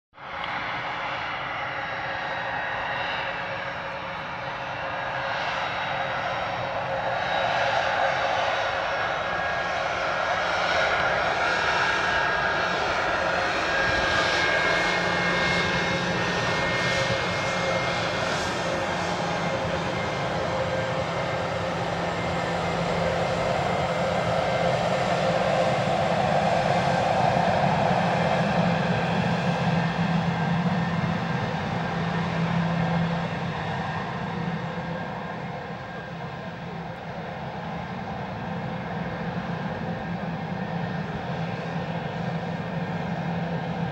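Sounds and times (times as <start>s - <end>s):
jet engines with high whine: 0.2s - 43.9s.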